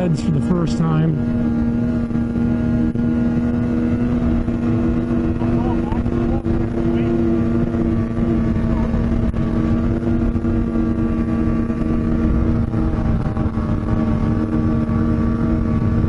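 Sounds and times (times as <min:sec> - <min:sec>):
rushing wind and track noise: 0:00.0 - 0:16.0
snowmobile engine droning: 0:00.0 - 0:16.0.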